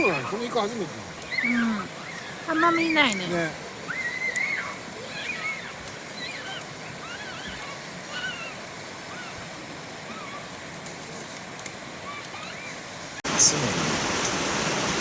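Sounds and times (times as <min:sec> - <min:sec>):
distant voices: 0:00.0 - 0:13.2
river flowing: 0:00.0 - 0:15.0.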